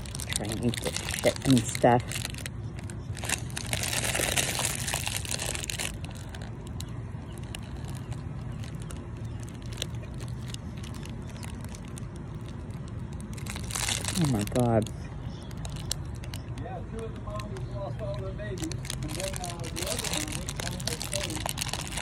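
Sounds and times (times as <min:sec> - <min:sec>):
crunching and chewing pastry: 0:00.0 - 0:22.0
foil wrapper crinkling: 0:00.0 - 0:22.0
low background hum: 0:00.0 - 0:22.0.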